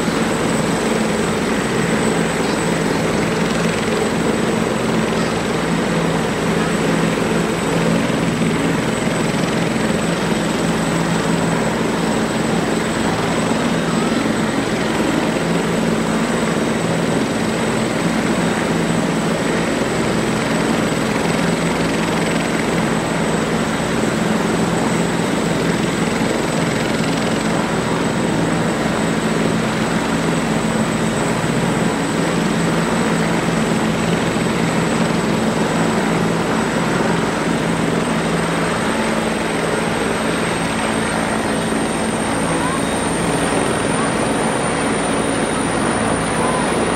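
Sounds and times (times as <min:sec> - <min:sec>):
helicopter turbine and rotor drone: 0:00.0 - 0:46.9.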